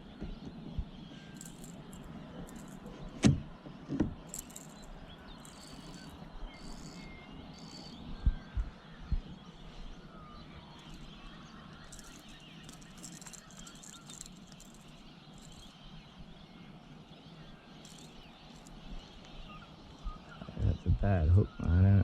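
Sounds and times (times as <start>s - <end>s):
distant bird chirps: 0.0s - 22.0s.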